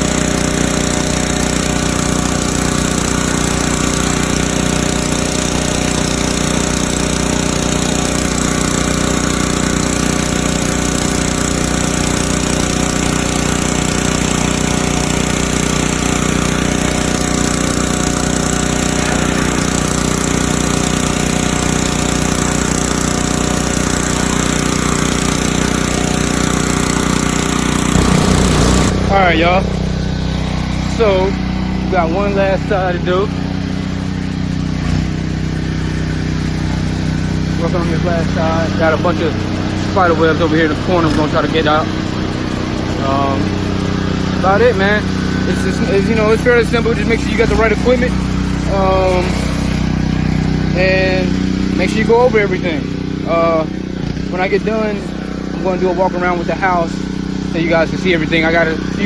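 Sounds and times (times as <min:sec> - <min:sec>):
pressure washer engine running: 0:00.0 - 0:59.0
water spray hissing: 0:00.0 - 0:59.0.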